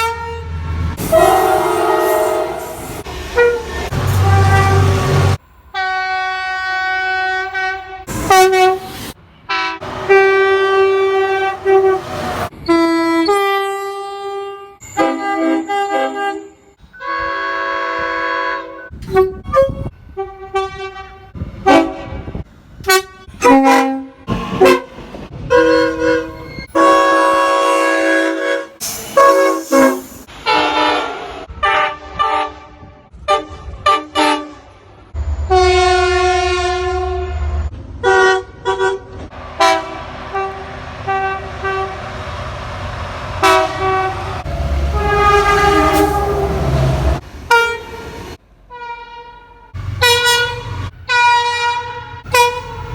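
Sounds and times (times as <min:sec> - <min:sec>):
locomotive air horns: 0:00.0 - 0:34.8, 0:35.5 - 0:52.9.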